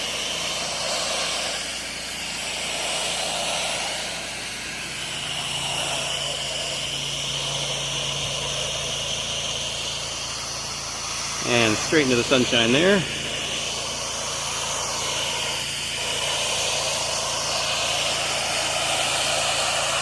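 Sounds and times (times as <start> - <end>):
engine hum: 0.0 - 20.0
pressure washer spray hissing: 0.0 - 20.0.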